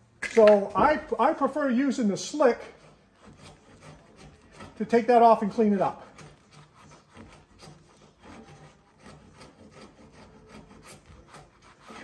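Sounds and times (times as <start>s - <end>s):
chisel scraping wood: 0.4s - 12.0s.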